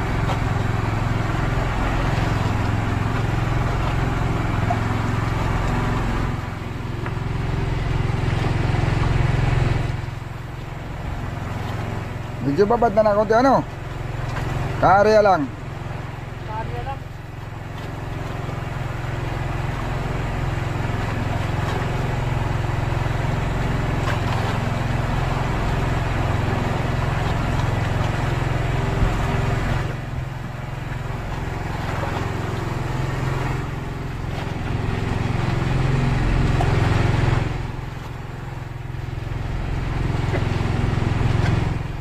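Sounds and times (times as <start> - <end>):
small engine droning: 0.0 - 42.0.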